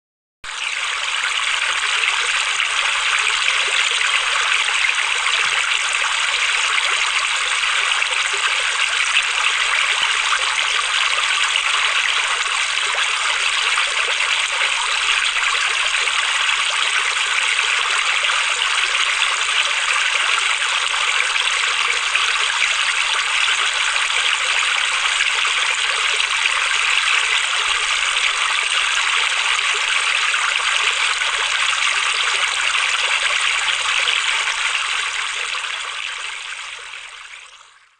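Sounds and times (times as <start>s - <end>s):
flowing water: 0.4s - 37.9s.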